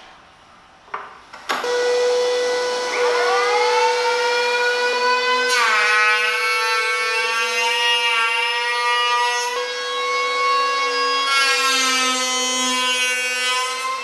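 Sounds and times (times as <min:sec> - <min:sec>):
power tool motor whining: 0:01.6 - 0:14.0.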